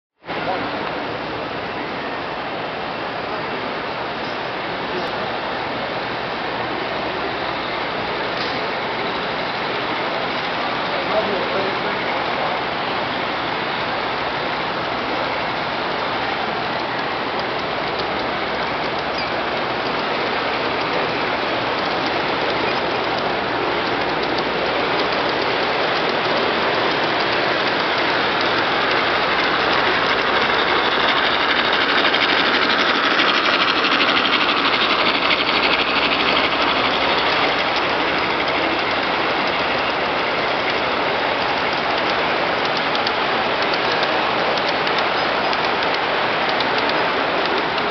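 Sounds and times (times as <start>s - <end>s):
model train wheels rattling: 7.4s - 47.9s.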